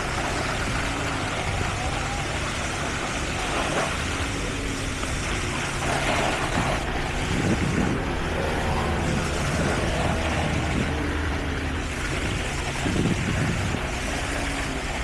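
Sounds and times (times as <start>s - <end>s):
heavy machinery engines droning: 0.0s - 15.0s.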